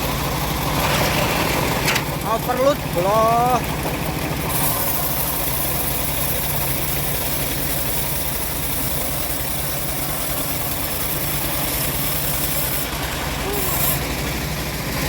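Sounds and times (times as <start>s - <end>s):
bandsaw mill engine humming: 0.0s - 15.0s.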